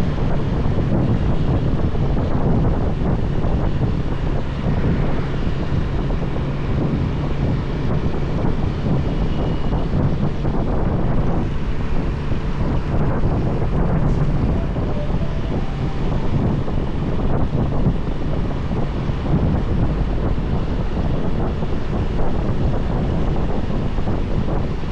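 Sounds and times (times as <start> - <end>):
low motorbike engine drone: 0.0 - 24.9
wind buffeting microphone: 0.0 - 24.9.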